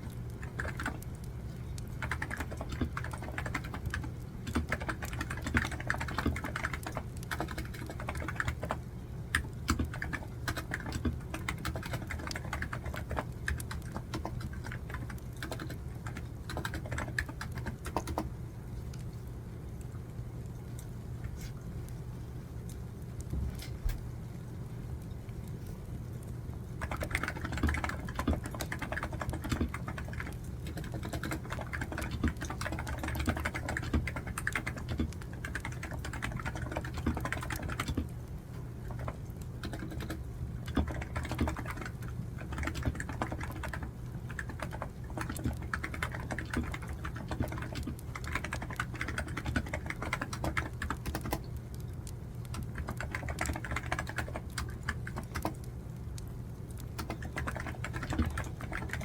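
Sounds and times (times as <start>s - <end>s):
keyboard typing: 0.0s - 18.3s, 26.8s - 38.1s, 38.8s - 55.7s, 56.8s - 59.0s
steady low hum: 0.0s - 59.0s.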